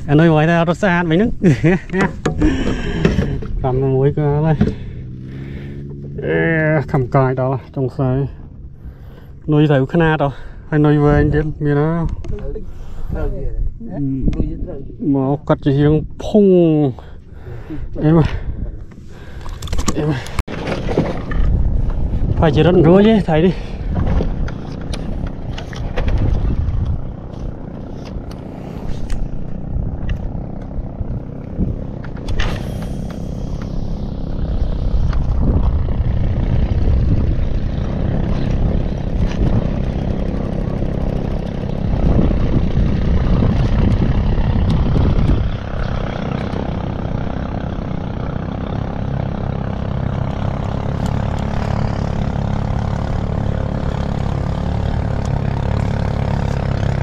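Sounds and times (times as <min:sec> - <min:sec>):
boat engine droning: 0:00.0 - 0:11.9, 0:16.9 - 0:57.0.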